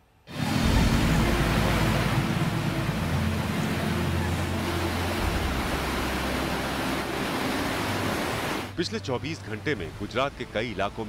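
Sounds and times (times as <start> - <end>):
floodwater rushing: 0.3 - 11.0.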